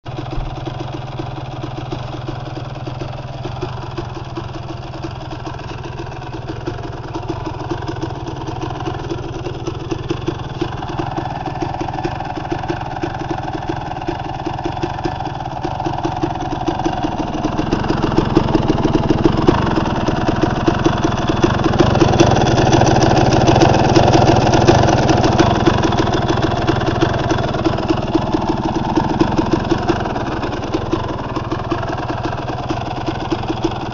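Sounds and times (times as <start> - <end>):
two-stroke engine idling: 0.1 - 33.9.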